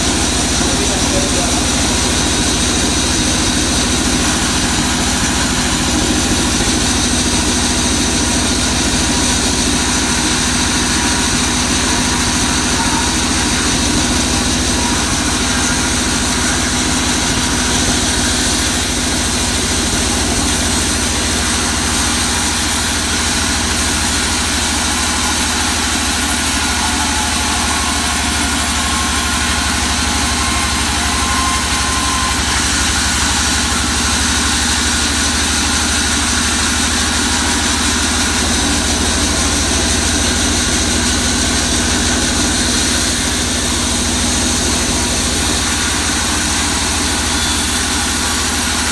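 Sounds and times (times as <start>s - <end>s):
band saw cutting log: 0.0s - 48.9s.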